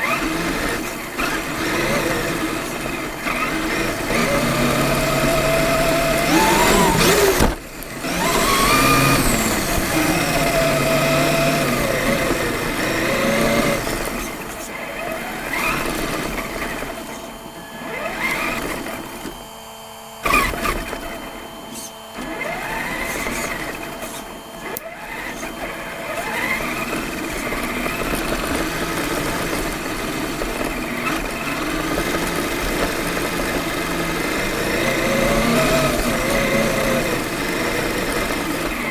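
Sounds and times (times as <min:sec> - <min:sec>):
electric motor and gear whine: 0:00.0 - 0:38.9.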